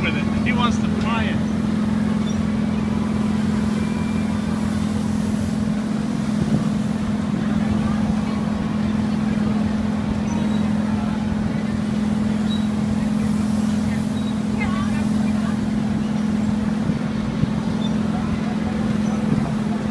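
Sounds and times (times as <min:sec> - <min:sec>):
ride machinery drone: 0:00.0 - 0:19.9.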